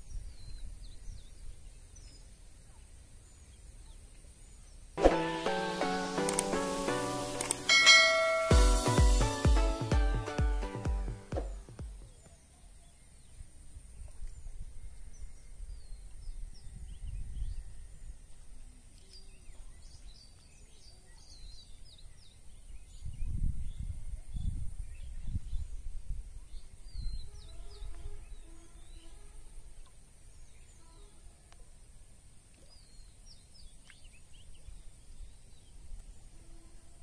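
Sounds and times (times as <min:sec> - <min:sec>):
small birds chirping: 0:00.0 - 0:05.0, 0:11.4 - 0:37.0.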